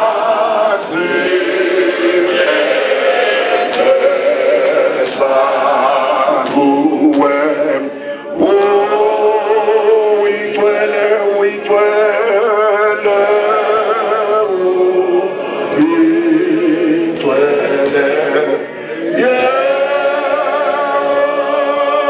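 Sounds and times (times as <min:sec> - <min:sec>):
men singing a hymn: 0:00.0 - 0:22.0.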